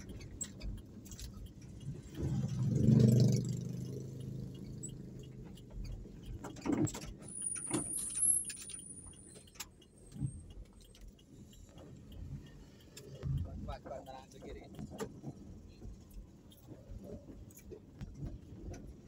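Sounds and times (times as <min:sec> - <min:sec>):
light rattles and clicks: 0:00.0 - 0:19.0
vehicle rumble: 0:00.0 - 0:19.0.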